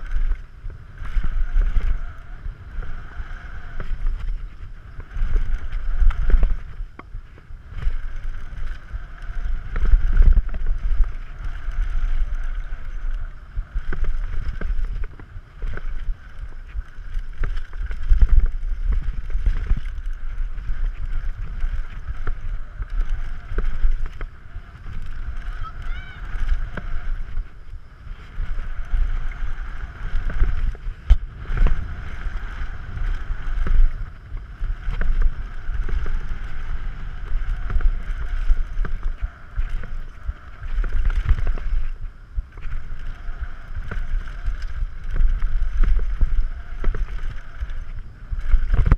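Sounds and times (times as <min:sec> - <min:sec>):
bike knocking and rattling: 0:00.0 - 0:48.9
tyre noise on packed dirt: 0:00.0 - 0:48.9
wind buffeting microphone: 0:00.0 - 0:48.9.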